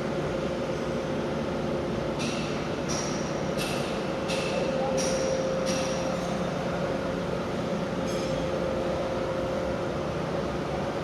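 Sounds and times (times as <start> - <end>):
mechanical hum with high whine: 0.0 - 11.0.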